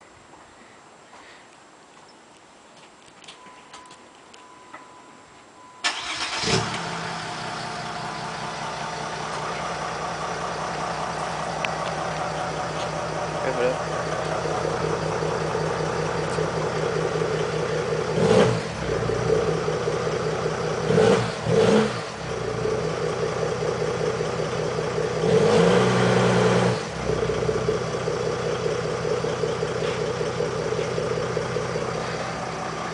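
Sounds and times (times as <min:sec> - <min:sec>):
diesel engine idling and revving: 0:05.8 - 0:32.9.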